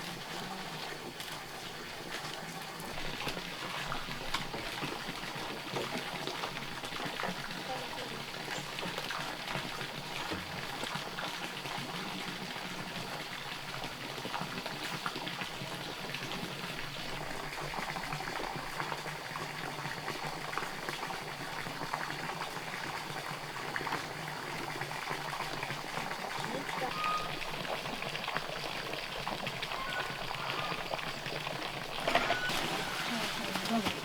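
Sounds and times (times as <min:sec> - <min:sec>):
liquid boiling in a pot: 0:00.0 - 0:34.0.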